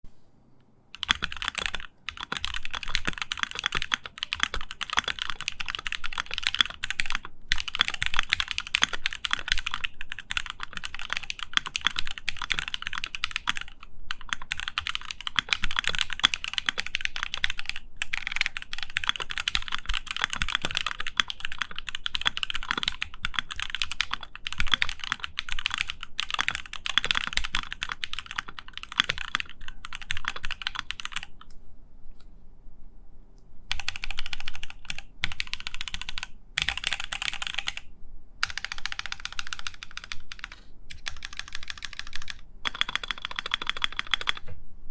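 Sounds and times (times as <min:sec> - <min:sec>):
fast mechanical keyboard typing: 0:00.9 - 0:31.5, 0:33.7 - 0:44.4.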